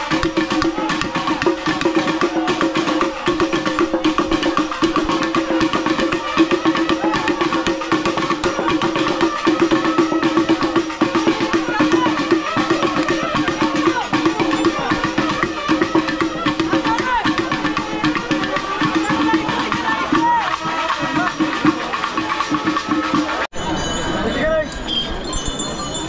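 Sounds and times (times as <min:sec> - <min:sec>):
fast dense drumming: 0:00.0 - 0:23.5.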